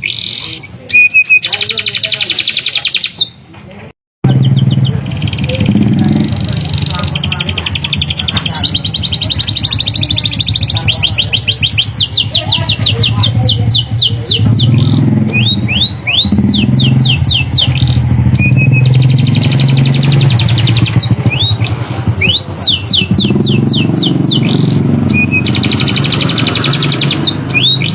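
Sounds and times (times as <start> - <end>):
canary singing: 0.0 - 3.5, 4.2 - 27.9.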